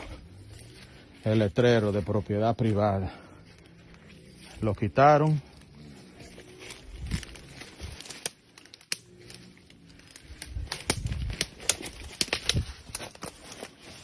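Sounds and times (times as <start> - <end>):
leaves and twigs rustling: 0.0 - 14.0.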